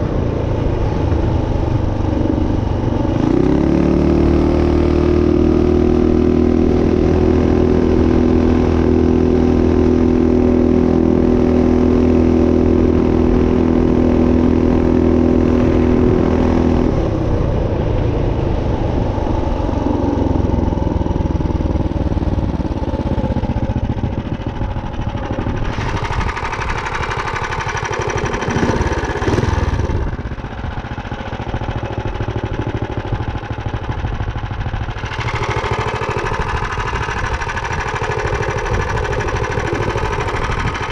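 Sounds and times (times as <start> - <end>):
minibike engine running: 0.0 - 40.9.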